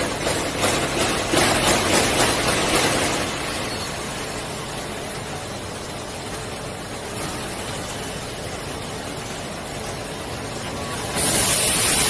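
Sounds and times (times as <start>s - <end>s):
machine hum and hiss: 0.0s - 12.0s.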